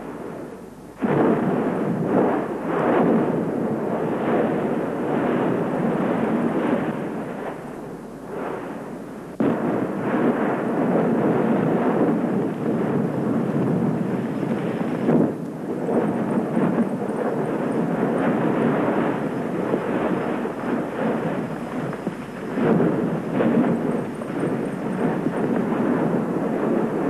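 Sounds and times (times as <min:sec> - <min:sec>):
volcano roaring and rumbling: 0:01.0 - 0:27.0.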